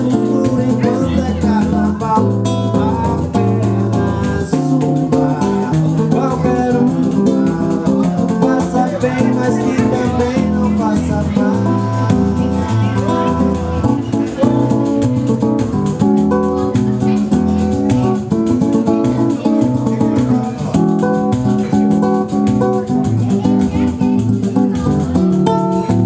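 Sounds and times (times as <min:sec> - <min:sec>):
guitar strumming chords: 0:00.0 - 0:26.0
rattling percussion: 0:00.0 - 0:26.0.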